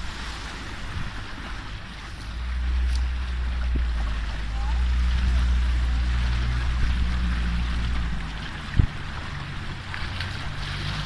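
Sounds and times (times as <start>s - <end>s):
motorboat engine running: 0.0s - 11.0s
water rushing past hull: 0.0s - 11.0s.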